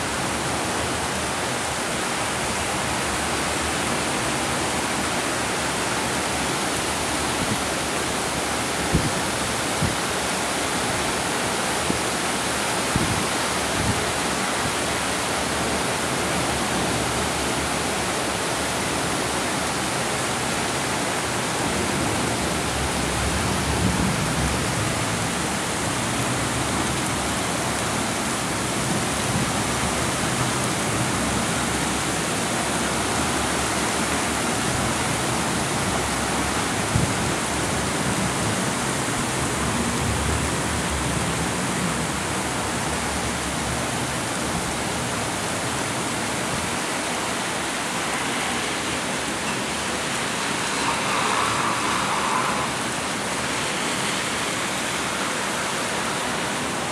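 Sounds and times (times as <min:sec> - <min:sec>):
heavy rain pouring: 0:00.0 - 0:56.9
strong wind gusts: 0:00.0 - 0:56.9.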